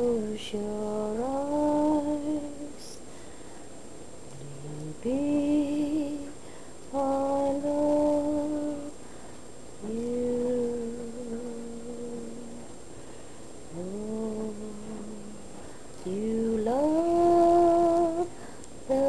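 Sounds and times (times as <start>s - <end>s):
woman humming a lullaby: 0.0s - 3.0s, 4.3s - 9.0s, 9.8s - 12.7s, 13.7s - 19.0s.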